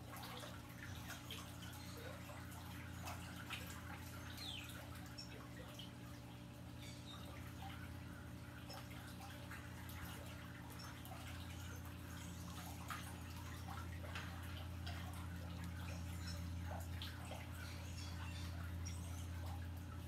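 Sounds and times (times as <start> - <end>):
steady low hum: 0.0 - 20.0
water trickling and dripping: 0.0 - 20.0.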